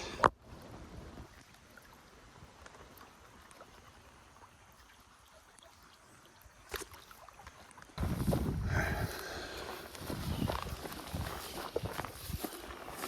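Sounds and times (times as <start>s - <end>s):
faint creek water flowing: 0.0s - 13.0s.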